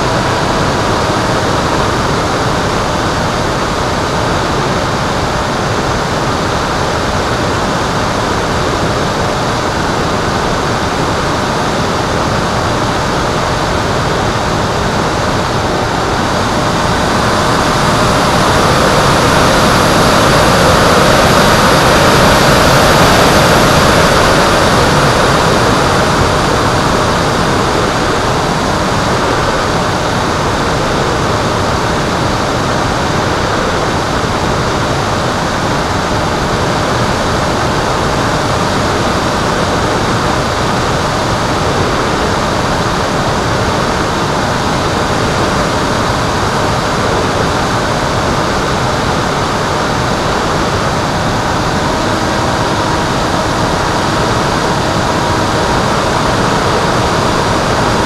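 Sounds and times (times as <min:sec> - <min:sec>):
faint motor whine: 0:00.0 - 0:58.0
wind noise over camera: 0:00.0 - 0:58.0.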